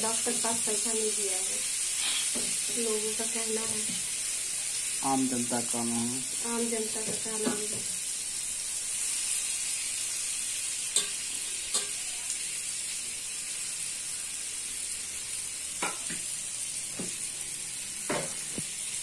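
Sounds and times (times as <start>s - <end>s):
slices sizzling in oil: 0.0s - 19.0s.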